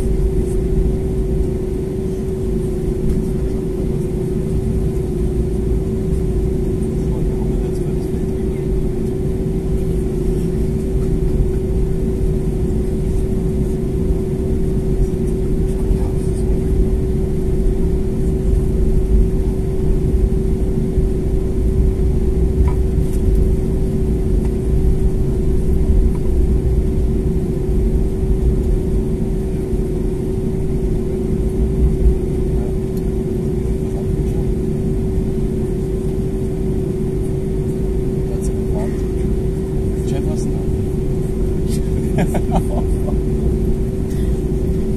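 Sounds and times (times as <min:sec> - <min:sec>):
aircraft cabin engine drone: 0:00.0 - 0:44.9.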